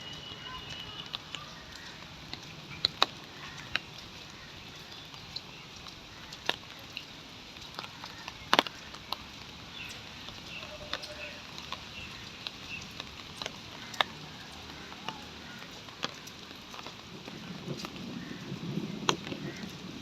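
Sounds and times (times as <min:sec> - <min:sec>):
rain falling: 0:00.0 - 0:20.0
sharp raindrop hits: 0:00.0 - 0:20.0.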